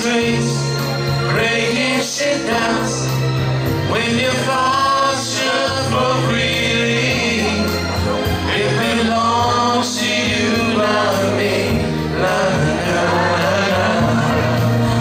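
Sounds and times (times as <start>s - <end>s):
amplified backing music with bass: 0.0s - 15.0s
men singing together: 0.0s - 15.0s.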